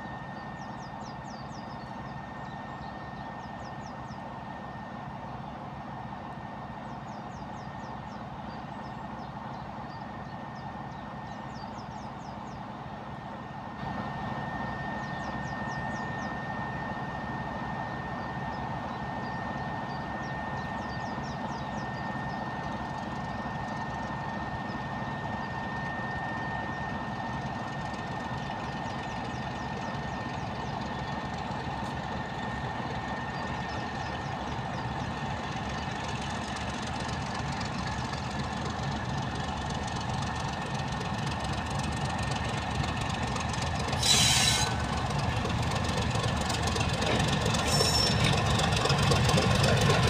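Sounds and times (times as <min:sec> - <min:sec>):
diesel locomotive rumbling: 0:00.0 - 0:50.0.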